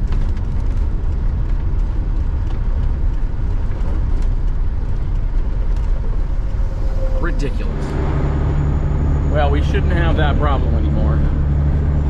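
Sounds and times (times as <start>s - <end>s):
road noise: 0.0s - 12.0s
diesel engine drone: 0.1s - 12.0s.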